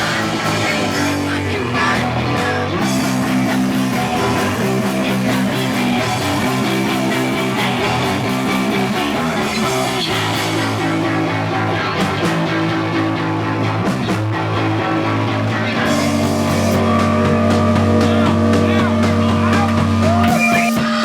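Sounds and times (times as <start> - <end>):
electric guitar: 0.0 - 21.0
punk rock band playing: 0.0 - 21.0.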